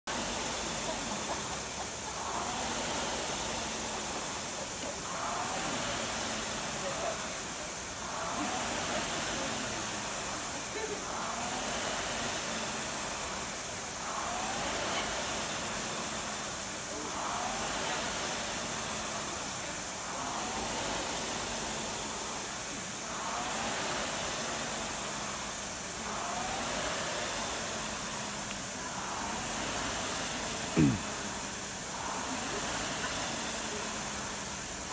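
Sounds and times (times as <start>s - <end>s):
faint rising fan whine: 0.1s - 34.9s
rowing machine flywheels rushing: 0.1s - 34.9s.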